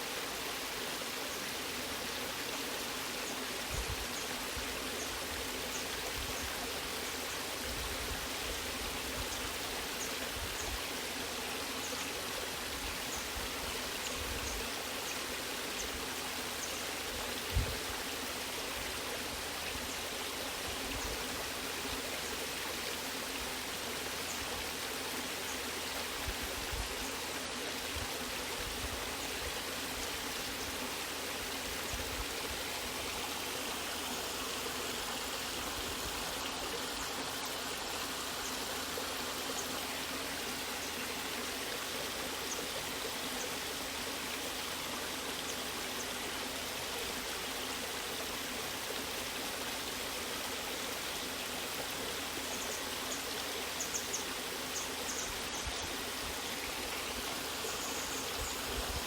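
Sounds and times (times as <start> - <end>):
waterfall and stream rushing: 0.0 - 59.0.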